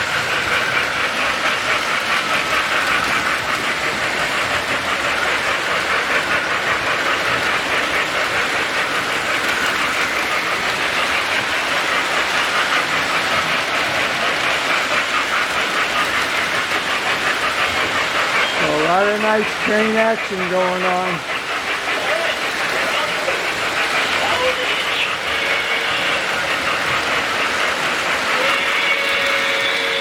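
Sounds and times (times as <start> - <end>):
model train wheels clattering: 0.0 - 30.0.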